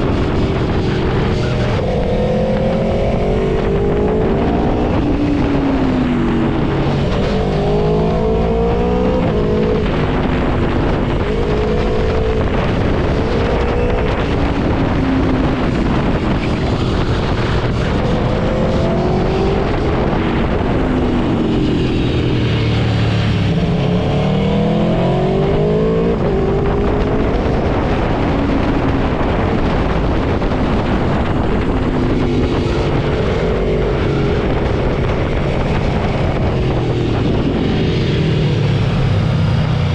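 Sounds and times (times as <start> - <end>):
motorcycle engine accelerating: 0.0 - 39.9
rushing noise: 0.0 - 39.9.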